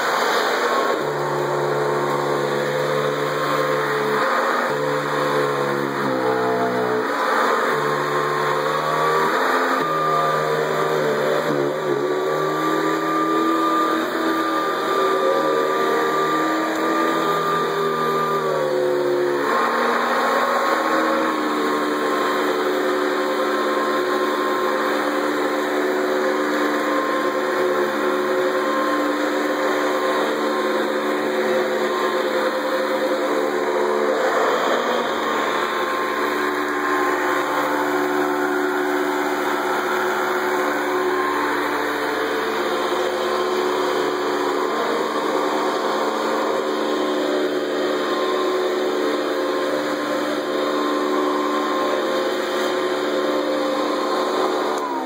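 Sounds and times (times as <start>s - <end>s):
upright vacuum cleaner running: 0.0s - 55.0s.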